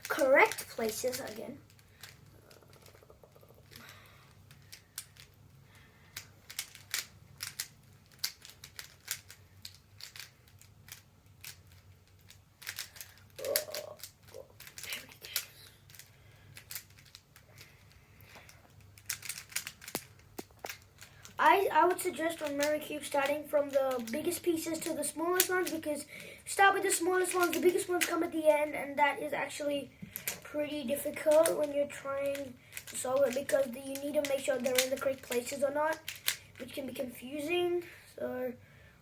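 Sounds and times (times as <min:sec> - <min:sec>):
puzzle cube clicking: 0:00.0 - 0:05.4, 0:06.1 - 0:18.0, 0:18.7 - 0:28.3, 0:30.1 - 0:36.5.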